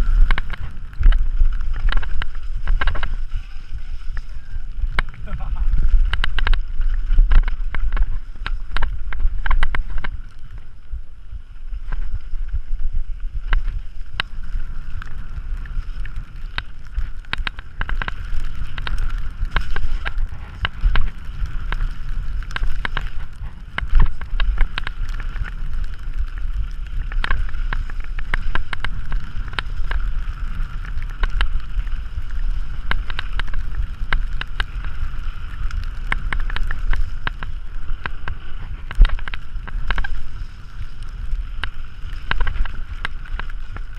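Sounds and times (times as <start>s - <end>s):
bike rattling over bumps: 0.0s - 43.9s
wind buffeting microphone: 0.0s - 43.9s.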